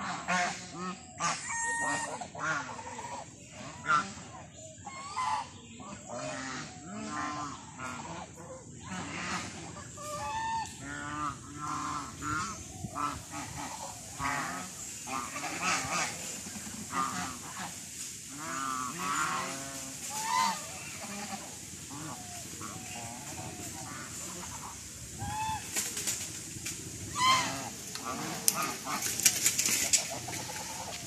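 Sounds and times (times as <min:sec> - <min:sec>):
geese honking: 0:00.0 - 0:31.0.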